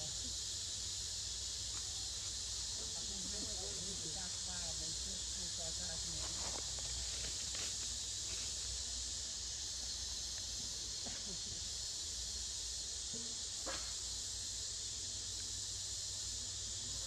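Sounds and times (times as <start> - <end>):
insect chorus hiss: 0.0 - 17.0.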